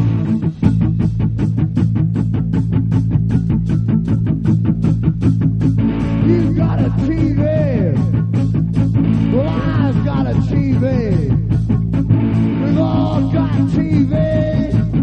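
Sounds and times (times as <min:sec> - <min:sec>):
lead electric guitar bending notes: 0:00.0 - 0:15.0
rock music: 0:00.0 - 0:15.0.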